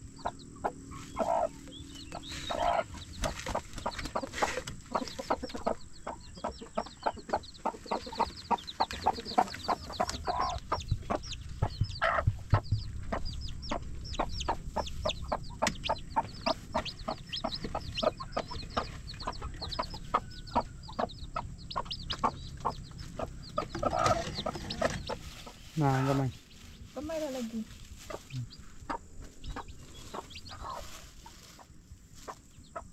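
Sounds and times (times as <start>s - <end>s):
hen calling: 0.0s - 3.3s, 4.2s - 31.6s
chicks peeping: 0.0s - 32.9s.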